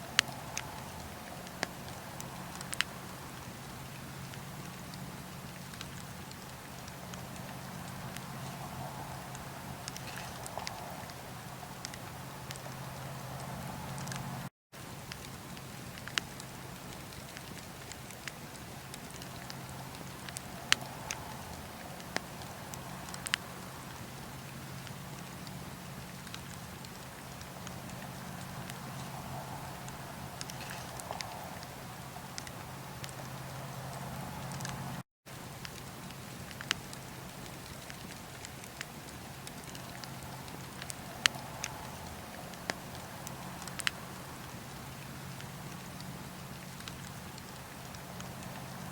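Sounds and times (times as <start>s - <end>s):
fire crackles and pops: 0.0s - 48.9s
wood fire hissing: 0.0s - 48.9s.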